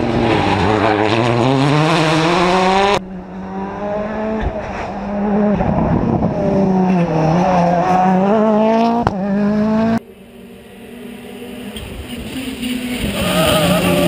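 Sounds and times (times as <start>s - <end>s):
fainter engine: 0.0s - 14.0s
rally car engine revving: 0.0s - 14.0s.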